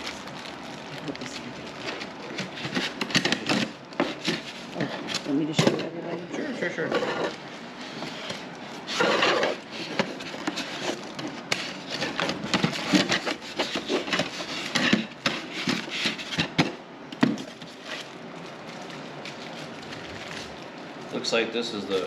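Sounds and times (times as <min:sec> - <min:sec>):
packaging rustle: 0:00.0 - 0:05.4, 0:07.3 - 0:16.6, 0:17.3 - 0:22.0.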